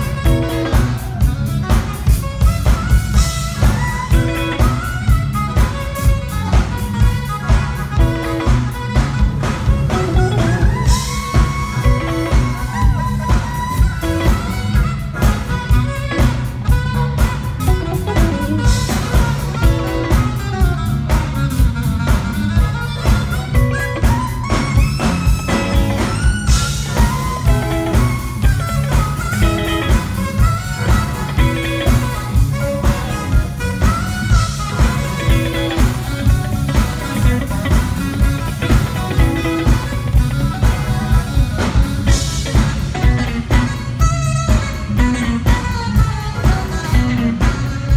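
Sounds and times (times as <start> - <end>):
drums: 0.0 - 47.9
electric bass guitar: 0.0 - 47.9
saxophones playing melody: 0.0 - 47.9.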